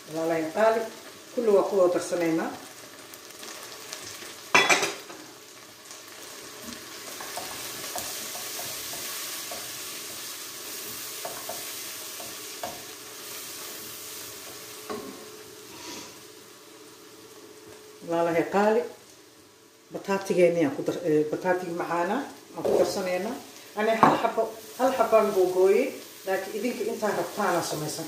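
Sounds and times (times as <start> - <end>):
vegetables sizzling in a pot: 0.0 - 28.0.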